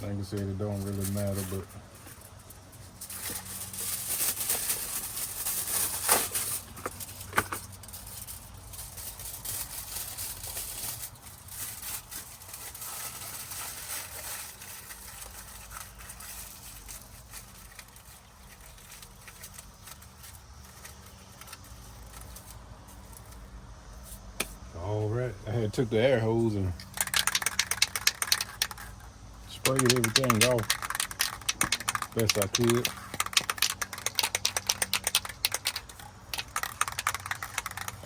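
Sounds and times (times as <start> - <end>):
aluminium foil crinkling: 0.2 - 24.3, 26.4 - 38.0.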